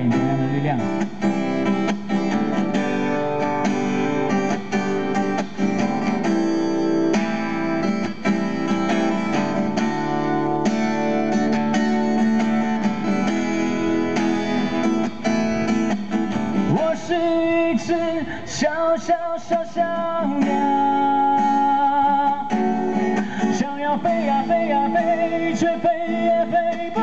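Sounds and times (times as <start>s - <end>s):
acoustic guitar strumming: 0.0s - 27.0s.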